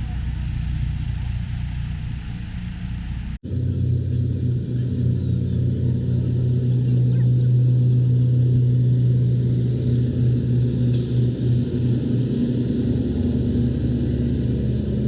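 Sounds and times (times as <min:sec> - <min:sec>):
large engine droning: 0:00.0 - 0:15.0.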